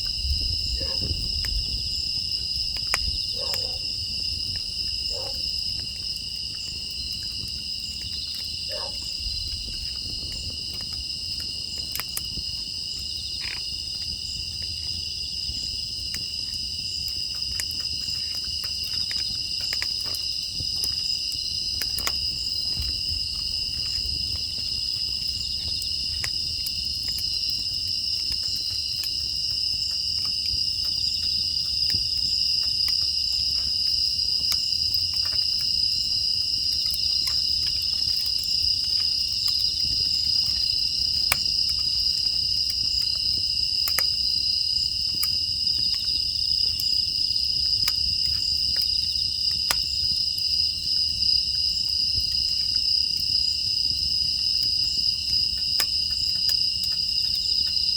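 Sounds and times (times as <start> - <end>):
crickets and insects chirping: 0.0 - 57.9
wood fire crackling and popping: 0.0 - 57.9.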